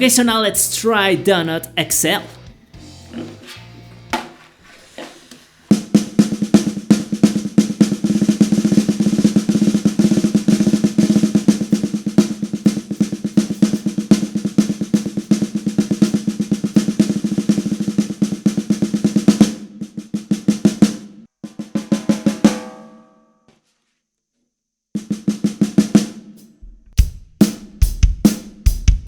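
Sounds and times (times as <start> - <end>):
dampened snare drum roll: 3.1 - 22.9, 25.0 - 29.0.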